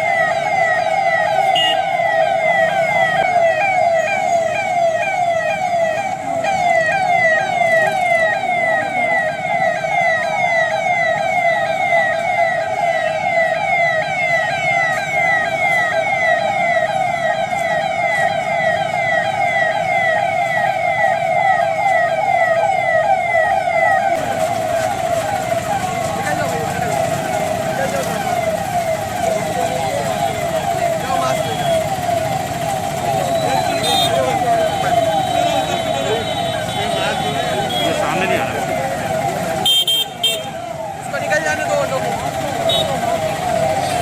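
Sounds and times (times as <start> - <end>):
siren with falling sweeps: 0.0 - 39.7, 40.5 - 44.0.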